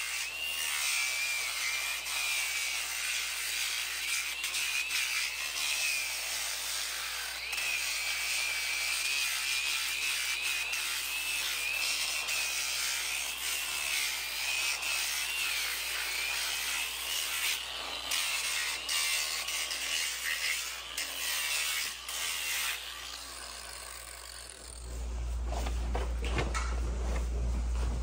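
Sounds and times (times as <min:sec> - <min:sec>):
angle grinder grinding hoof: 0:00.0 - 0:28.0.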